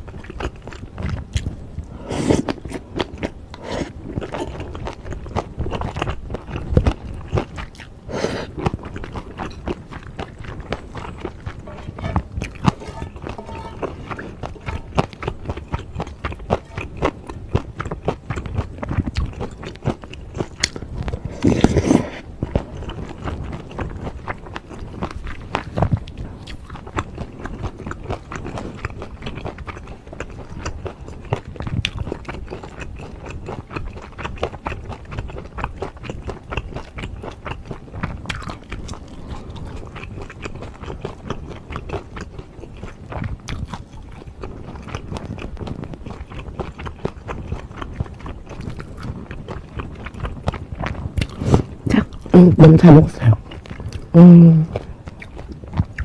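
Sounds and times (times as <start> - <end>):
person chewing with wet clicks: 0.0 - 56.0.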